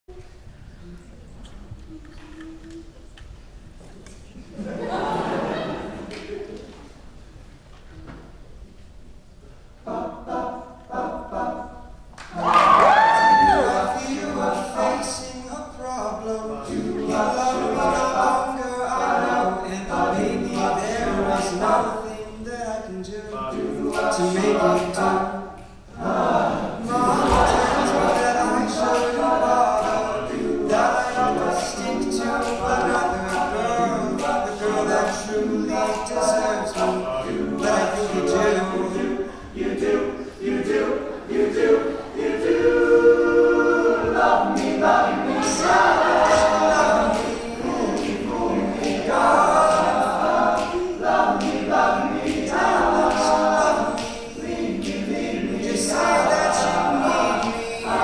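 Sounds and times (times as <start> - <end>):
male a cappella group singing: 9.8 - 58.0.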